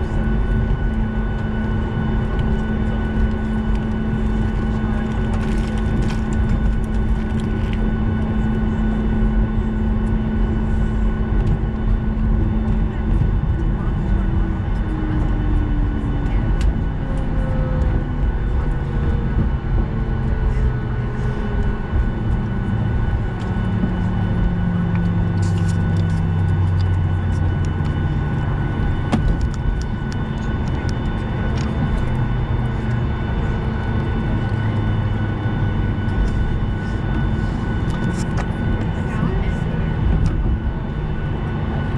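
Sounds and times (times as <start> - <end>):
jet engine cabin rumble: 0.0 - 41.9.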